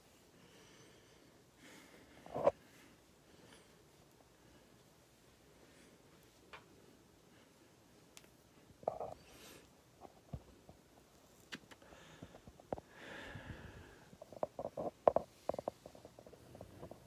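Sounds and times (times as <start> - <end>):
soft breathing: 0.0 - 11.1, 11.7 - 17.0.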